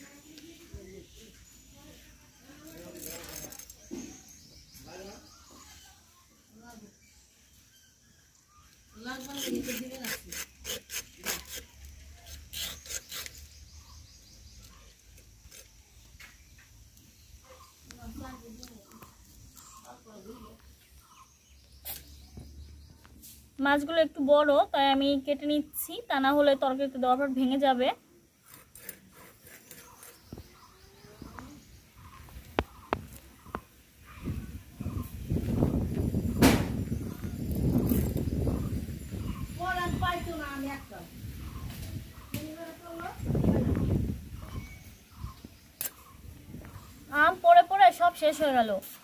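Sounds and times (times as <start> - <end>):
faint bird chirps: 0.0 - 9.7, 11.0 - 23.4, 28.4 - 47.4.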